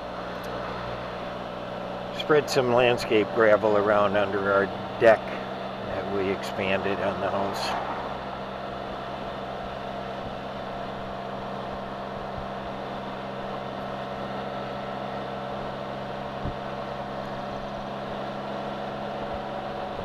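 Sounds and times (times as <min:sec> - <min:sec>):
motorcycle engine hum: 0:00.0 - 0:20.0
road and wind noise: 0:00.0 - 0:20.0.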